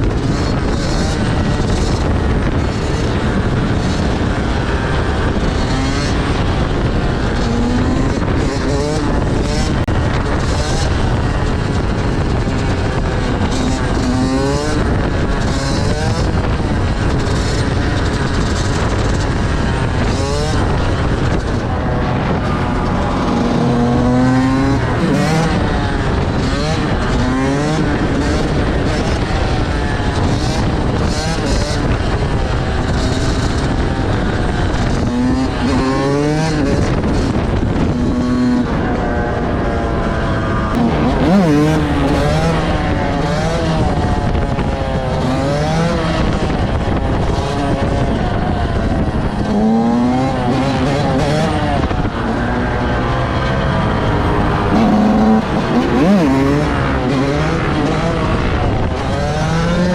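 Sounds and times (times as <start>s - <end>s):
low rush of wind: 0.0s - 59.9s
motorcycle engines accelerating: 0.0s - 59.9s.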